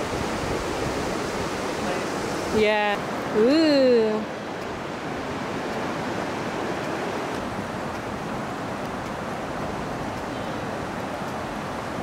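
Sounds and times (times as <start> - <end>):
creek rushing over stones: 0.0 - 12.0.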